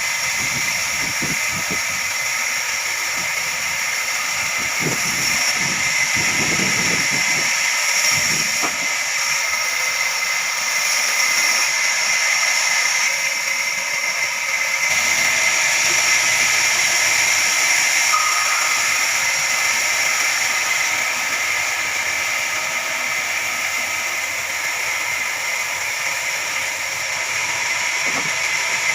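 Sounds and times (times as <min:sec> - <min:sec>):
band saw cutting log: 0:00.0 - 0:28.9.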